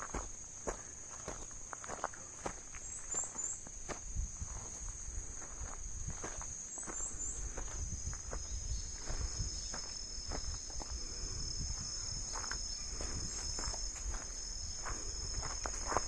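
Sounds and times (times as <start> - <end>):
insects trilling: 0.0 - 16.0
light crunching footsteps: 0.0 - 16.0.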